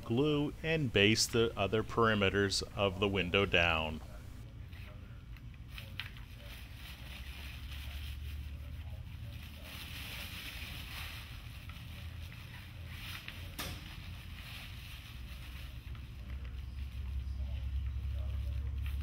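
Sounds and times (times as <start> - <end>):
low steady hum: 0.0 - 19.0
cloth and paper rustling: 1.9 - 19.0.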